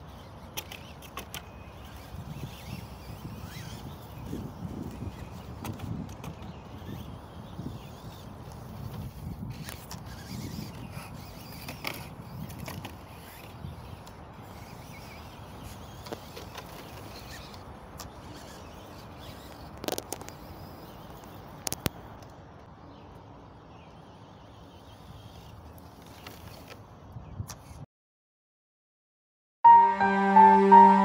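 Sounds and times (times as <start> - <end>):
radio-controlled car running: 0.0 - 22.0, 23.9 - 27.8
outdoor noise: 0.0 - 27.9.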